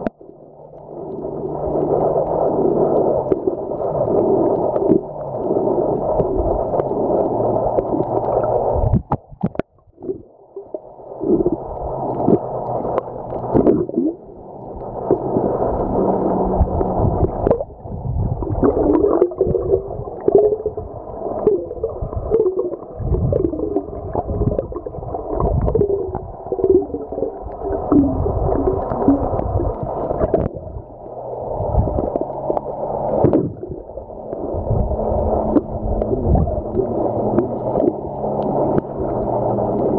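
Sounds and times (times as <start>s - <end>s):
underwater water rushing: 0.0s - 39.9s.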